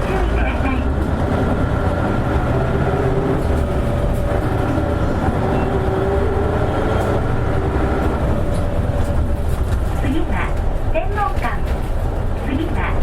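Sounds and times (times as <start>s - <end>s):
bus diesel engine drone: 0.0s - 13.0s
road rumble: 0.0s - 13.0s.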